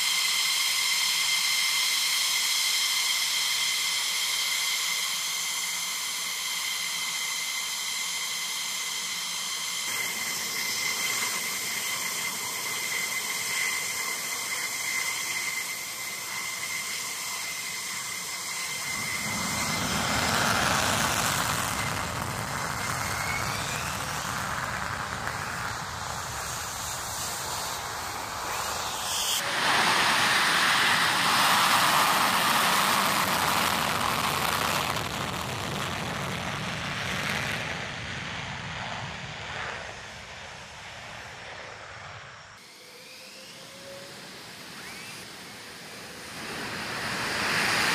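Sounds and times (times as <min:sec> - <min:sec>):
jet engines whining and roaring: 0:00.0 - 0:47.9.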